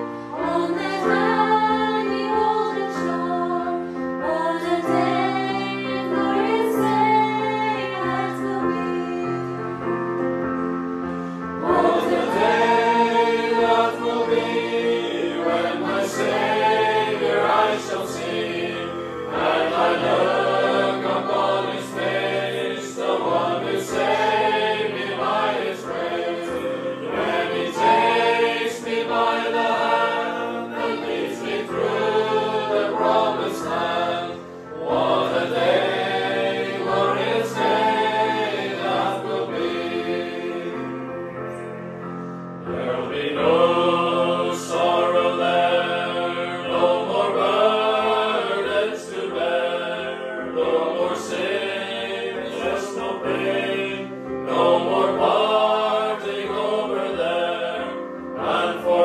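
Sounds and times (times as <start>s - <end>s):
choir singing a hymn: 0.0s - 59.0s
electronic keyboard: 0.0s - 59.0s.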